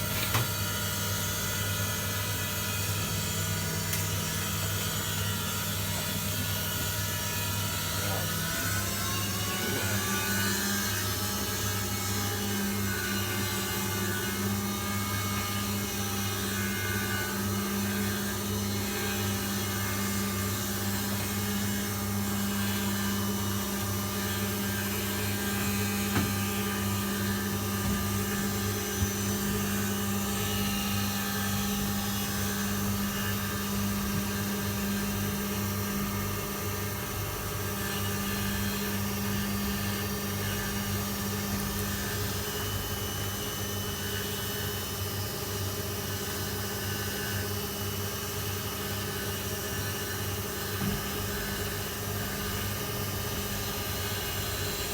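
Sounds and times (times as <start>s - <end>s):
washing machine hum: 0.0s - 54.9s.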